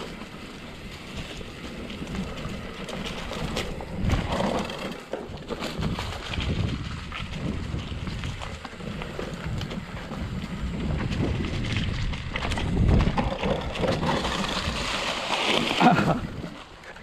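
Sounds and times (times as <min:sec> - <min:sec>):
bike rattling and knocking: 0:00.0 - 0:17.0
bike tyres rumbling on dirt: 0:00.0 - 0:17.0
wind buffeting microphone: 0:00.8 - 0:15.0.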